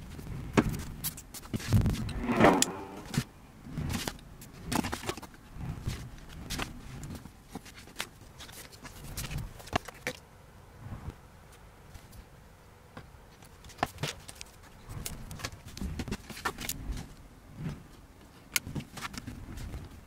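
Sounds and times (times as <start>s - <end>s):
vinyl film rustling and clicking: 0.0s - 2.2s, 3.0s - 10.2s, 13.3s - 20.0s.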